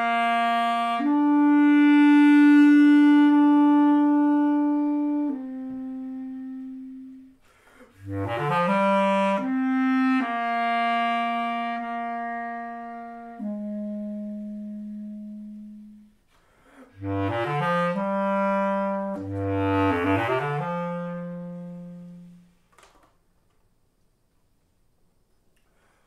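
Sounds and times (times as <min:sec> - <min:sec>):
bass clarinet playing: 0:00.0 - 0:22.6.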